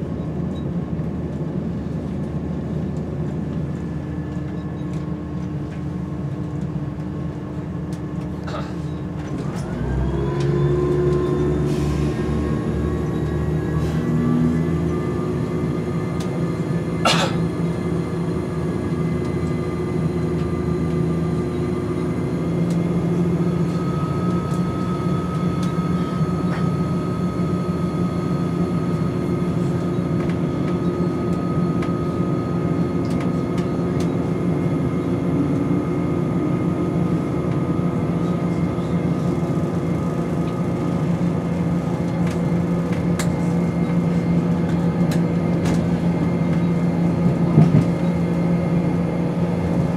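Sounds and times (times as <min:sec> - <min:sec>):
train engine hum: 0:00.0 - 0:49.9
rail noise: 0:00.9 - 0:49.9.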